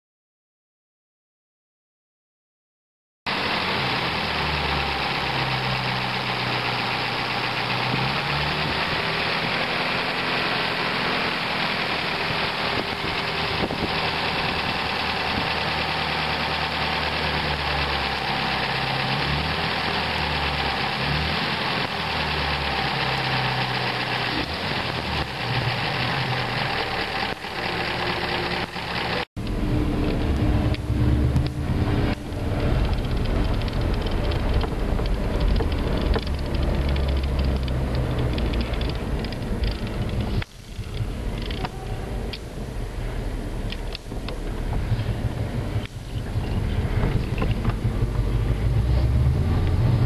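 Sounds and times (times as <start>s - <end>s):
car engine idling: 3.3s - 50.0s.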